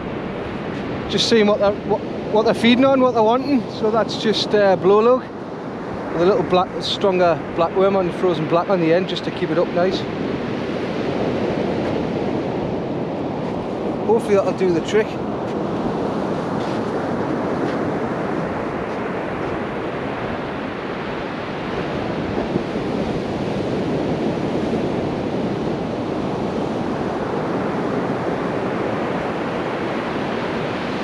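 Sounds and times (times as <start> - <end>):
sea surf washing onto beach: 0.0 - 31.0
wind buffeting microphone: 0.0 - 31.0.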